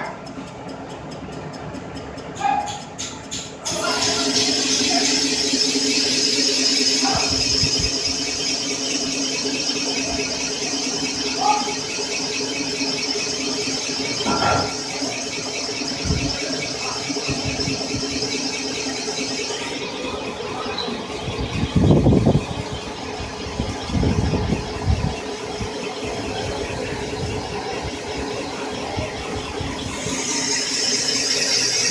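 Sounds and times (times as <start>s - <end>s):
boring machine whine: 2.8s - 31.9s.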